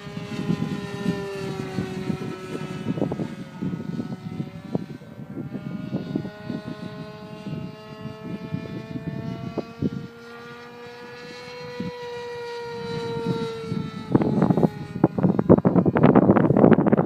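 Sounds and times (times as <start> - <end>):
model plane engine buzzing: 0.0 - 17.0
wind buffeting microphone: 0.0 - 17.0.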